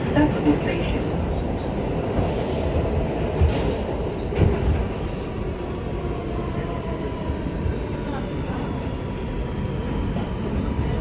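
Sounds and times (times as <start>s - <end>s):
subway wheels rumbling on track: 0.0s - 11.0s.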